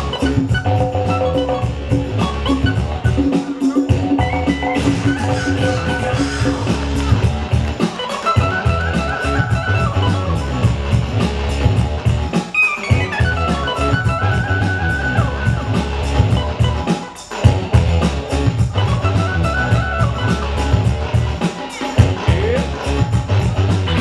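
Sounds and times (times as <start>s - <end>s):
loud drum beat and guitar music: 0.0s - 24.0s.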